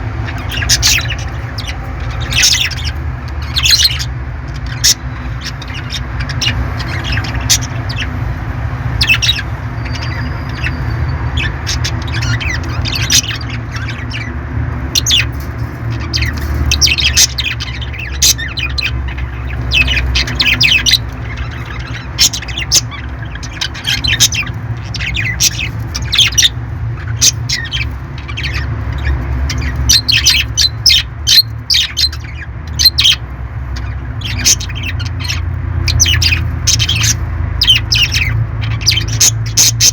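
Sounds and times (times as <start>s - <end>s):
low background hum: 0.0s - 39.9s
parrots squawking: 0.0s - 39.9s.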